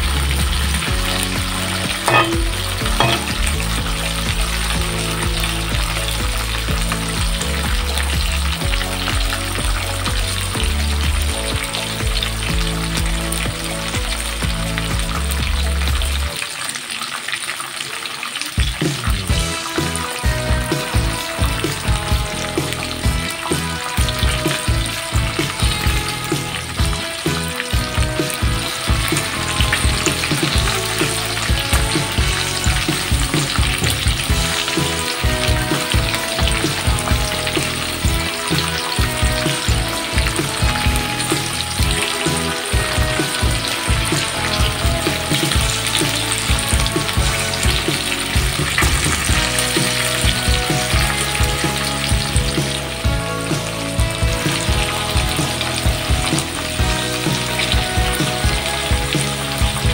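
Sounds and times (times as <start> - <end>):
green beans sizzling in oil: 0.0 - 59.9.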